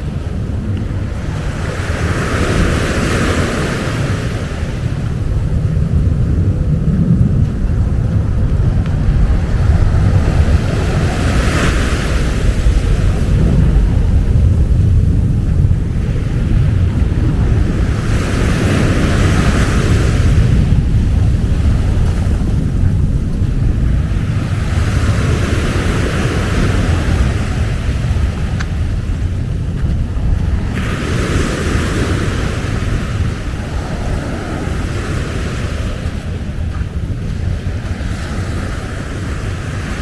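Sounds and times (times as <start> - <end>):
waves breaking on the beach: 0.0 - 40.0
wind buffeting the microphone: 0.0 - 40.0.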